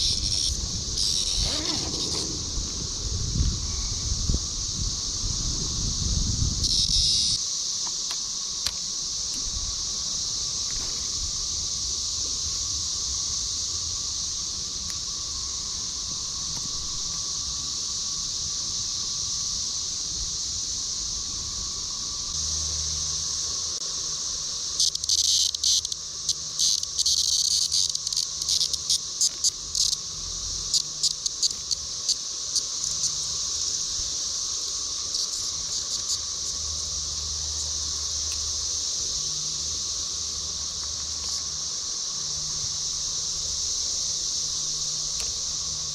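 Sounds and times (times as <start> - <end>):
cicadas droning: 0.0 - 45.9
close stuttering insect buzz: 0.0 - 45.9.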